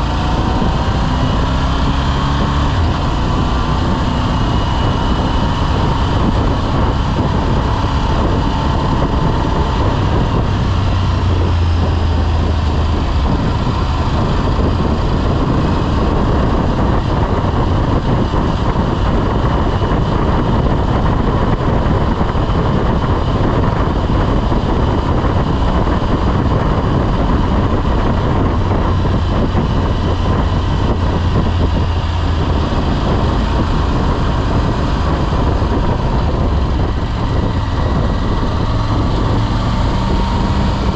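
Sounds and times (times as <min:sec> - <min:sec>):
motorcycle engine drone: 0:00.0 - 0:40.9
wind and road noise: 0:00.0 - 0:40.9.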